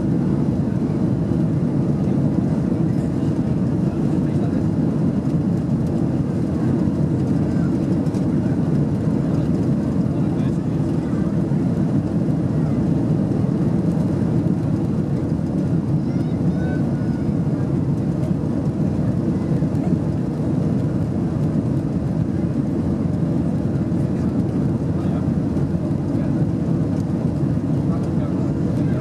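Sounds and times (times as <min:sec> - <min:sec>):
airplane cabin engine rumble: 0:00.0 - 0:29.0.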